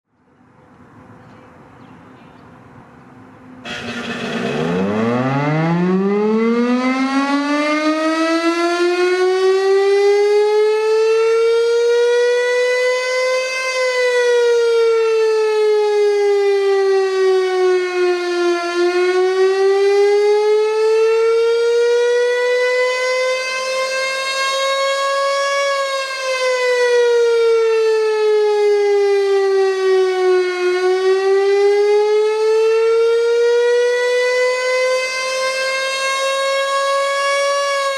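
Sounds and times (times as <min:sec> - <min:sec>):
fire siren wailing: 0:03.6 - 0:37.9.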